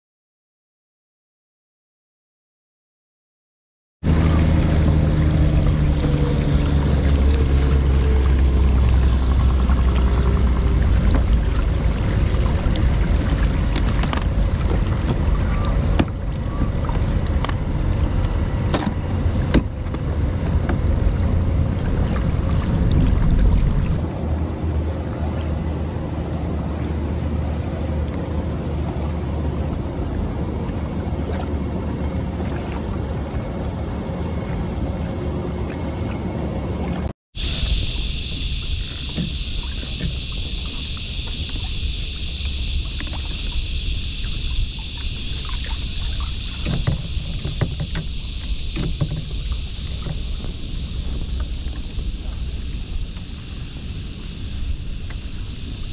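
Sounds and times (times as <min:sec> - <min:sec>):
water rushing past kayak hull: 0:04.0 - 0:55.9
wind rumbling on microphone: 0:04.0 - 0:55.9.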